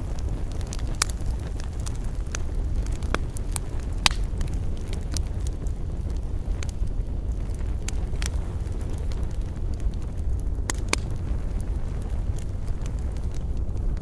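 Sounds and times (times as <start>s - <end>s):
campfire crackling and popping: 0.0s - 14.0s
low rumble of fire: 0.0s - 14.0s.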